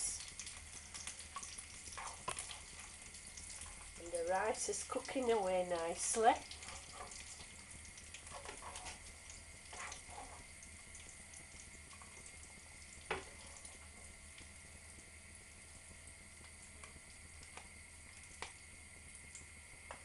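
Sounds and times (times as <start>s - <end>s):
frying pan sizzling: 0.0s - 20.0s.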